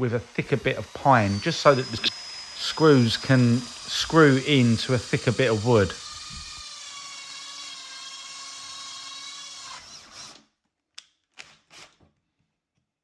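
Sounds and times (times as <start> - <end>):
power drill running: 0.0 - 10.5, 11.4 - 12.0.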